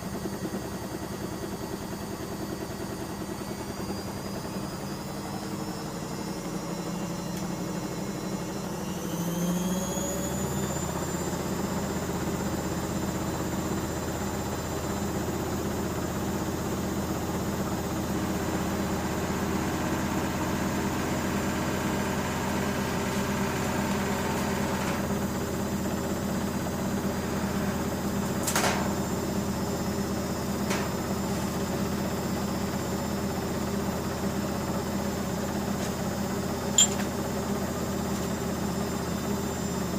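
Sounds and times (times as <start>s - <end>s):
washing machine spin hum: 0.0s - 39.9s.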